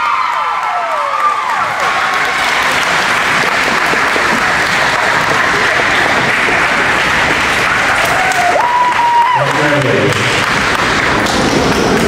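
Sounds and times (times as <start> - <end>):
crowd whooping: 0.0 - 9.9
audience applauding: 0.0 - 12.0.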